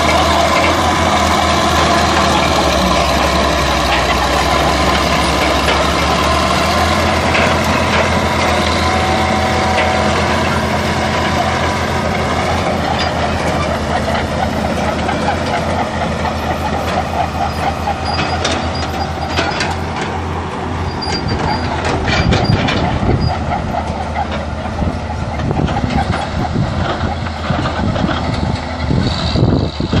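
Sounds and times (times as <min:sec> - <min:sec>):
bulldozer diesel engine running: 0:00.0 - 0:30.0
high track squeaks: 0:00.0 - 0:30.0
steel tracks clanking: 0:00.0 - 0:30.0.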